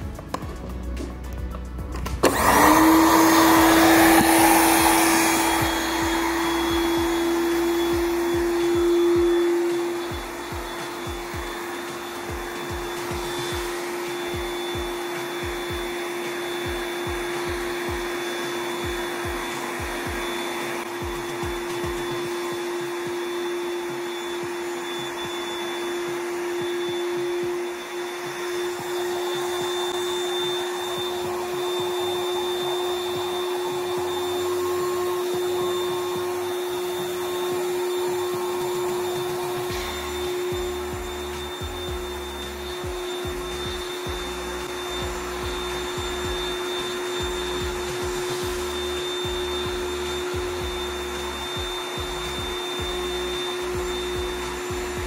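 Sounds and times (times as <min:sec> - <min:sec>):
electric air pump whirring: 0:00.0 - 0:55.0.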